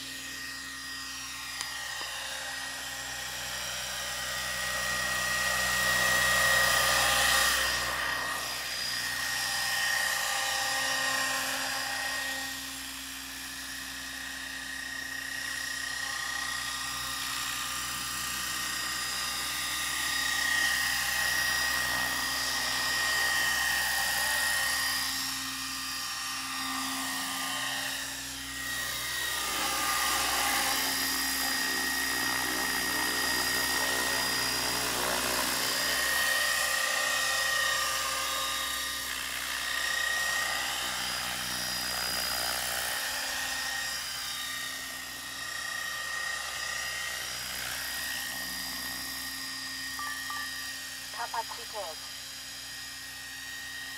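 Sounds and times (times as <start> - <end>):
rc helicopter motor whine: 0.0 - 53.9.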